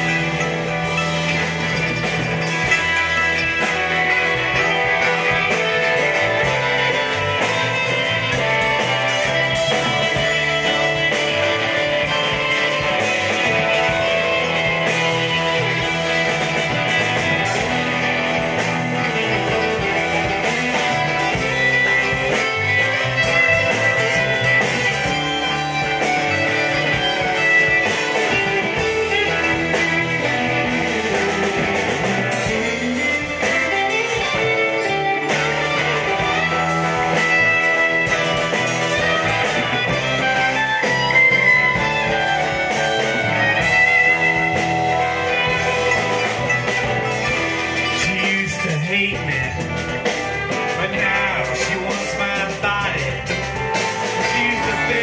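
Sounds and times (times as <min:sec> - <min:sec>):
blues-rock band playing: 0:00.0 - 0:55.0
electric guitar: 0:00.0 - 0:55.0.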